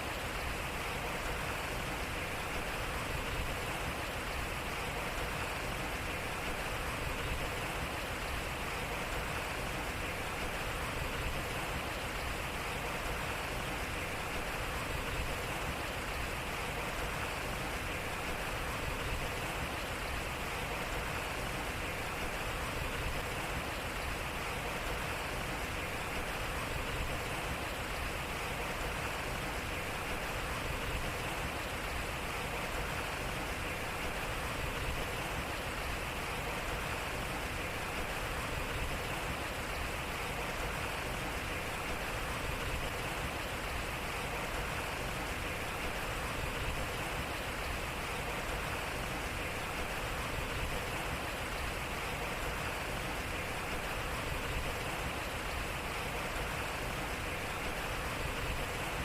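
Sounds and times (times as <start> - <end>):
water splashing at water wheel: 0.0 - 59.0.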